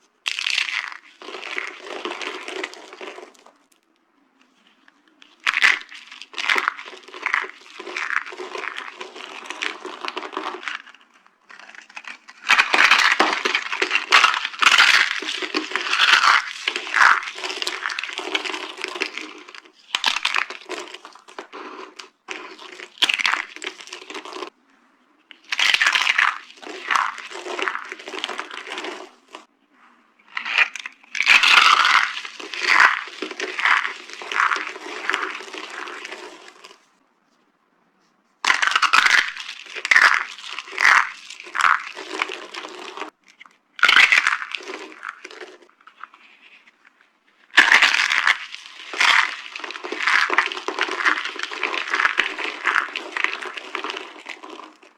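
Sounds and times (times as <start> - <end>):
dry soap crunching: 0.0 - 37.0, 38.4 - 54.9.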